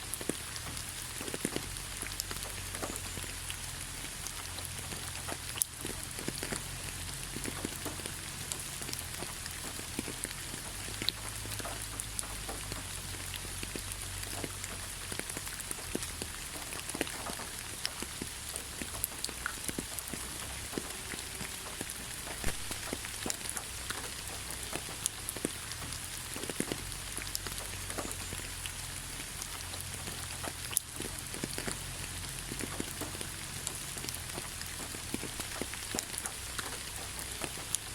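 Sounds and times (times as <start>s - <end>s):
hiss of rain: 0.0s - 37.9s
raindrop ticks: 0.0s - 37.9s.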